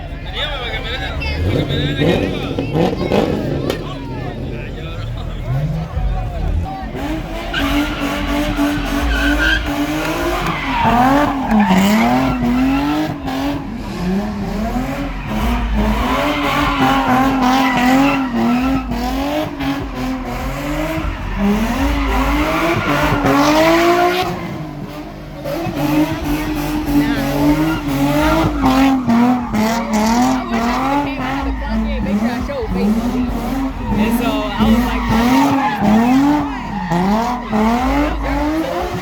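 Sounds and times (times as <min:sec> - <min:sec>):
car engine revving: 0:00.0 - 0:39.0
tires squealing: 0:00.0 - 0:39.0.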